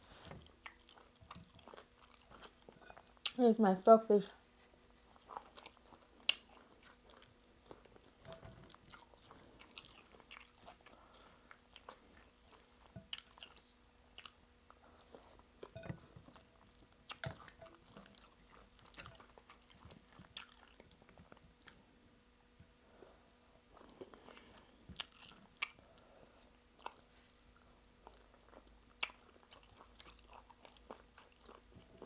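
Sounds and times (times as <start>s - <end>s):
person chewing food: 0.1s - 3.4s, 4.9s - 21.9s, 22.6s - 32.0s.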